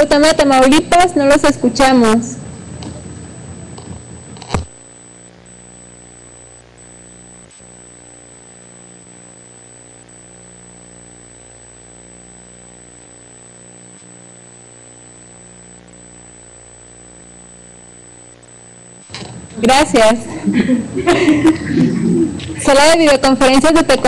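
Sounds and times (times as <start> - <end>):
electrical hum: 0.0 - 24.0
faint high whine: 0.0 - 24.0.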